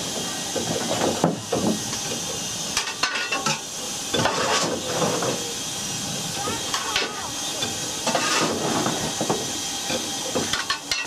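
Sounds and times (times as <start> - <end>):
steady steam hiss: 0.0 - 11.0.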